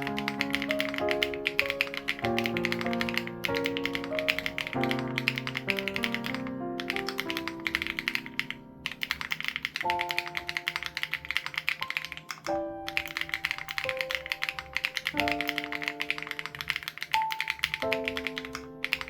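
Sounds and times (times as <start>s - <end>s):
fast mechanical keyboard typing: 0.0s - 19.0s.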